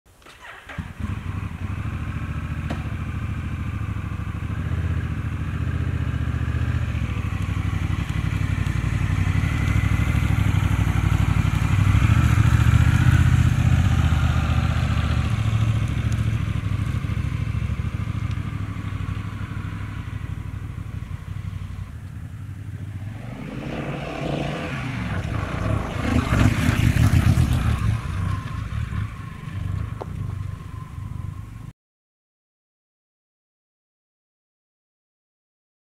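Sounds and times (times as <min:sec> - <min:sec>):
motorcycle engine riding by: 0:00.3 - 0:31.7.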